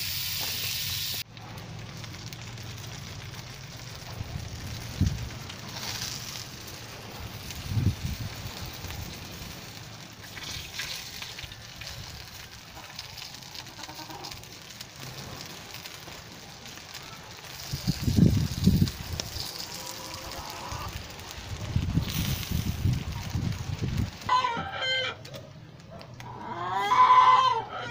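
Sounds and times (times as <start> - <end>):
wood fire crackling: 0.0 - 24.4, 25.1 - 26.3.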